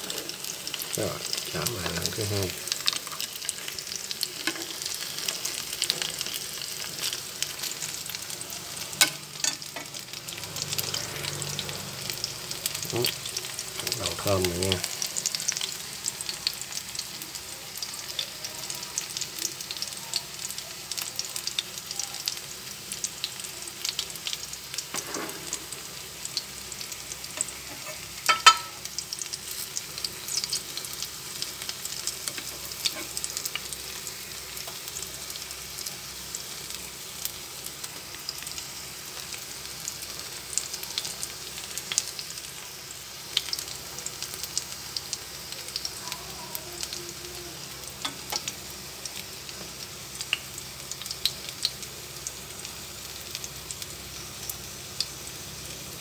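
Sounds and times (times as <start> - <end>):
patties sizzling in hot oil: 0.0 - 56.0.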